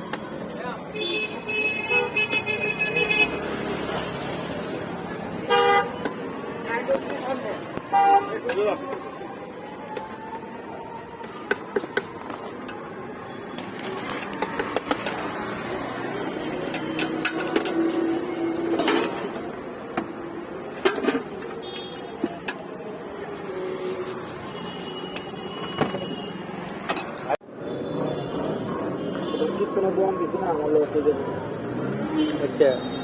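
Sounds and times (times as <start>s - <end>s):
roadside background noise: 0.0s - 33.0s.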